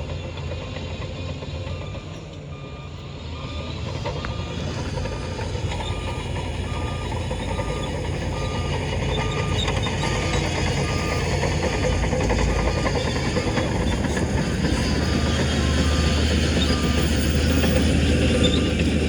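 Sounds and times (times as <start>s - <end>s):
diesel engine rumble: 0.0s - 19.0s
reversing alarm beeping: 1.2s - 19.0s.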